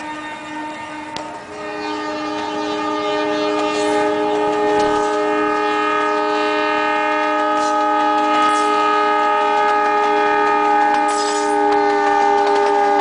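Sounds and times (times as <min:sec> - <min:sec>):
locomotive horn blast: 0:00.0 - 0:13.0.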